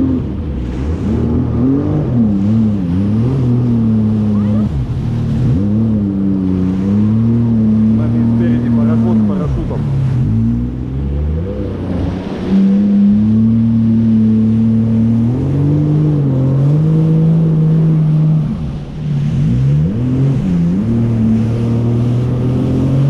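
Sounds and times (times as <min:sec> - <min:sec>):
jet ski engine running: 0:00.0 - 0:23.0.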